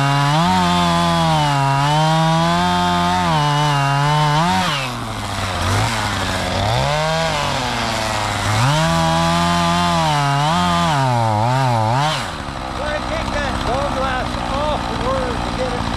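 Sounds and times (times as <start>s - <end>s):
chainsaw revving: 0.0s - 15.9s.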